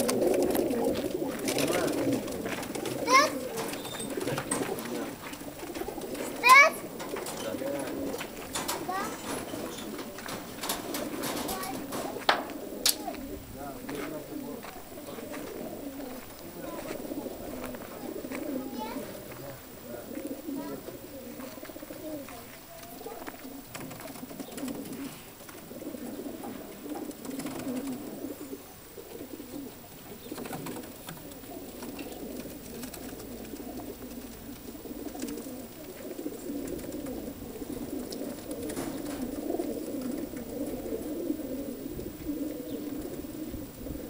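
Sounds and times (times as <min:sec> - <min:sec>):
pigeons cooing: 0:00.0 - 0:44.0.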